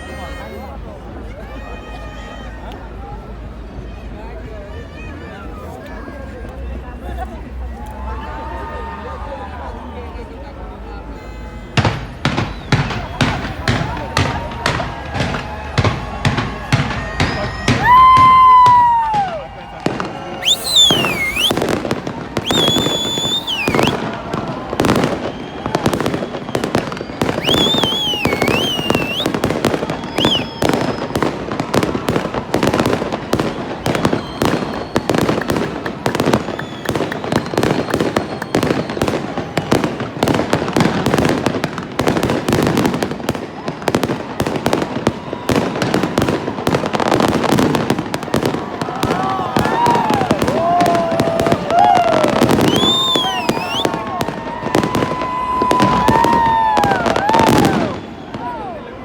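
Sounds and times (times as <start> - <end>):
fireworks bangs and crackle: 6.7 - 59.0
fireworks whistles: 11.1 - 58.8.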